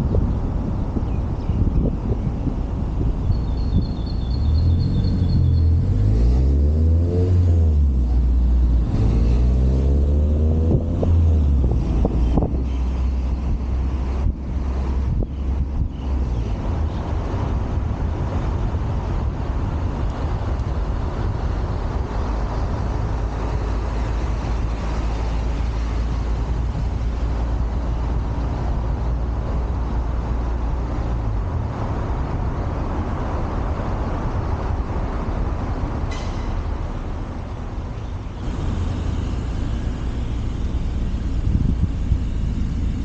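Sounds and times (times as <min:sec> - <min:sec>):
city road traffic: 0:00.0 - 0:43.0
deep rumble: 0:00.0 - 0:43.0.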